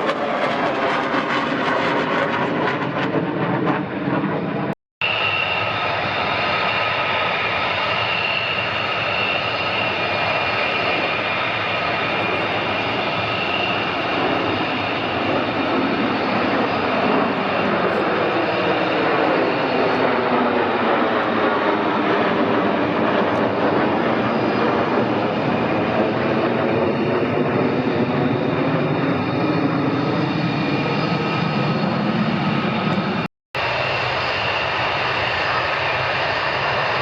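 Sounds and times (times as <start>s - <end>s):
fighter jet passing: 0.0s - 37.0s
jet engine rumble with whine: 0.0s - 37.0s.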